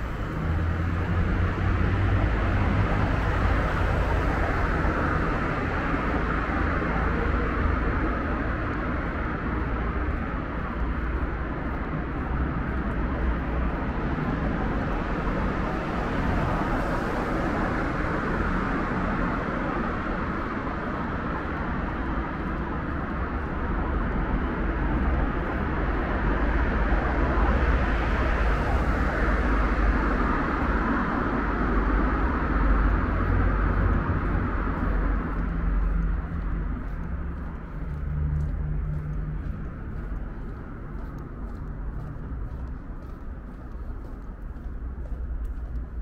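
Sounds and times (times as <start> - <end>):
road traffic rumble: 0.0 - 46.0.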